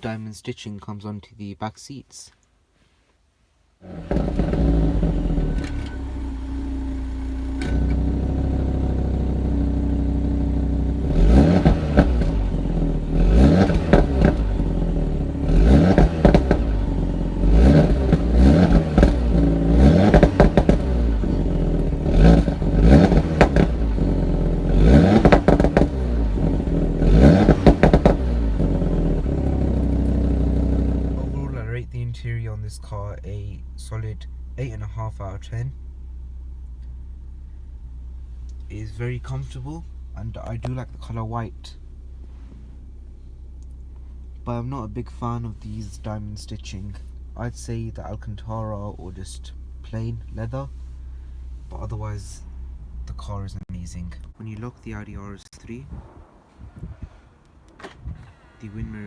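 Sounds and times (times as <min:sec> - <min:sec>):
car engine revving: 0:03.8 - 0:54.4.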